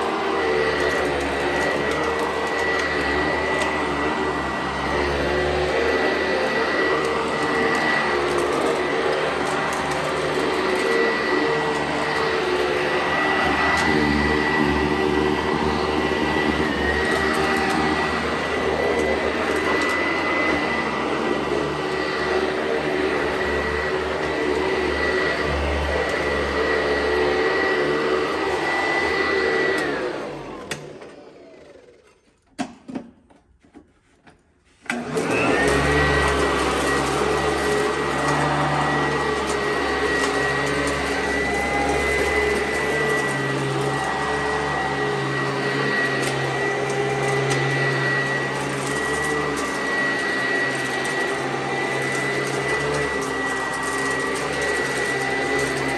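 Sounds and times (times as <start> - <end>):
vacuum cleaner whining: 0.0 - 33.0, 34.6 - 55.9.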